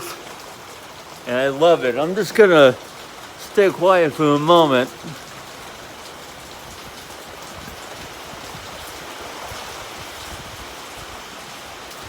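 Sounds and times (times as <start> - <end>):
heavy rain on a metal roof: 0.0 - 12.0.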